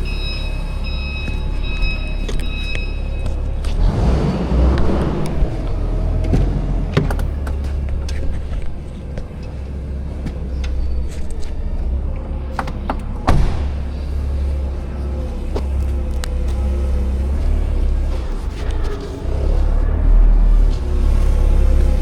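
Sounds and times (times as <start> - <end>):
truck engine low rumble: 0.0 - 22.0.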